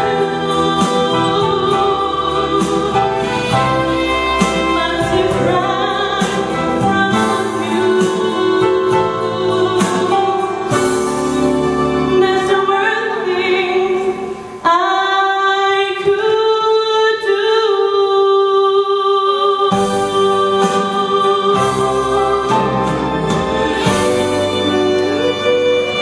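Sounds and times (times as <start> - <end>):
instrumental accompaniment: 0.0 - 16.2, 19.4 - 26.0
woman singing a slow ballad: 0.0 - 26.0.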